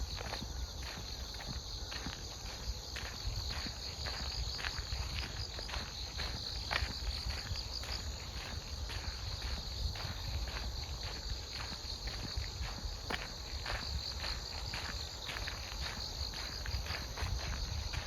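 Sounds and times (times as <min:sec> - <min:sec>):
crickets chirping: 0:00.0 - 0:18.0
footsteps on a path: 0:00.0 - 0:18.0.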